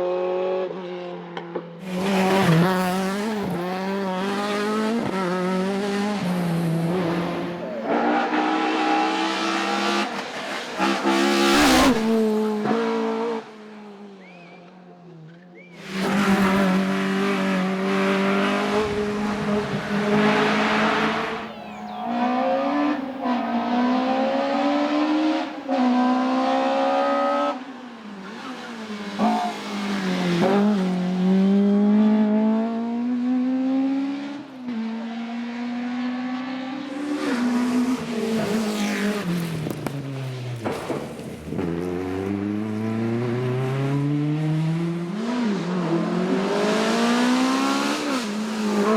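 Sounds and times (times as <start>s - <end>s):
racing car engine revving: 1.8s - 14.4s, 15.6s - 40.0s, 40.6s - 48.9s.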